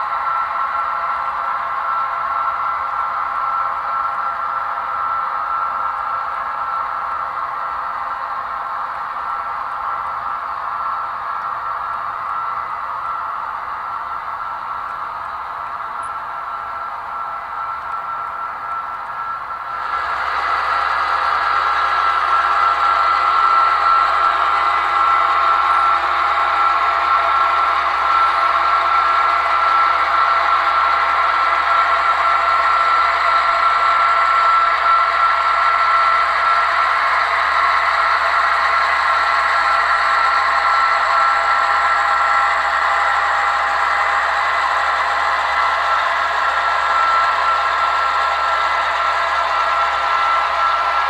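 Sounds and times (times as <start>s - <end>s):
model locomotive diesel engine sound: 0.0s - 51.0s.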